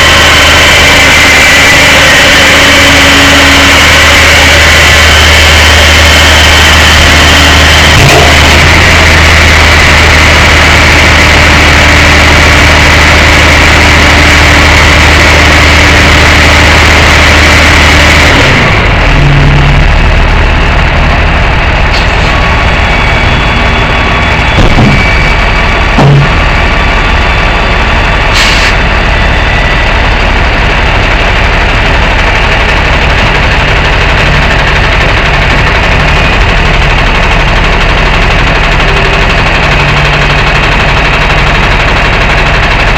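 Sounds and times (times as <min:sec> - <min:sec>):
truck engine running: 0:00.0 - 0:42.9.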